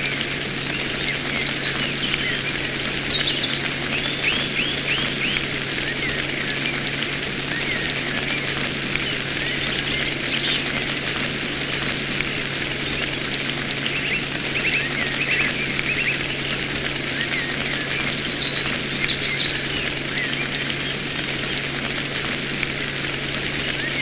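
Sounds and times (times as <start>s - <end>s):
birds chirping: 0.0s - 12.6s, 13.8s - 21.7s.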